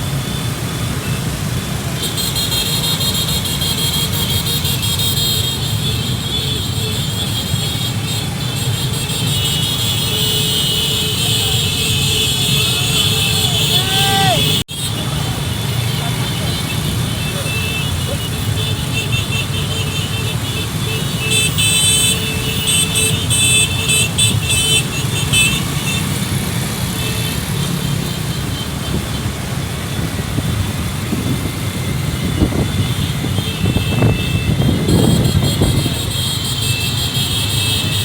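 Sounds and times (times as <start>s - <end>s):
engines rumbling: 0.0s - 38.0s.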